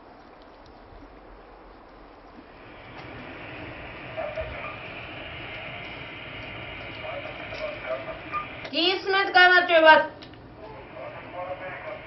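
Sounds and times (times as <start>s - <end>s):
steady rushing noise with low rumble: 0.9s - 12.0s.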